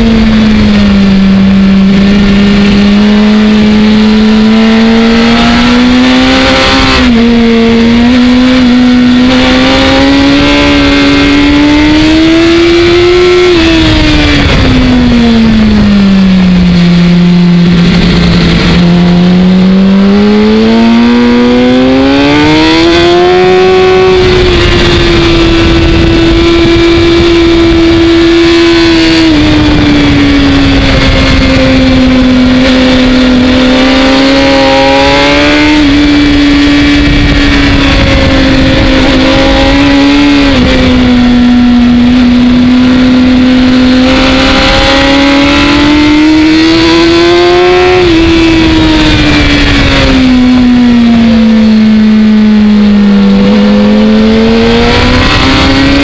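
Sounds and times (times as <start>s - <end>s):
motorcycle engine at high revs: 0.0s - 56.0s
wind rush: 0.0s - 56.0s.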